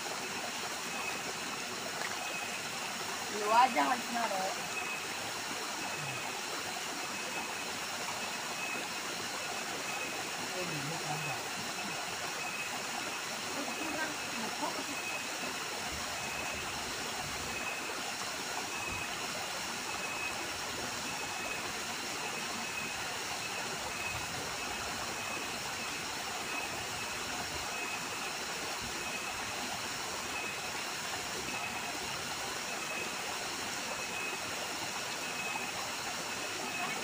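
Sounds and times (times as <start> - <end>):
small waterfall splashing: 0.0 - 37.0.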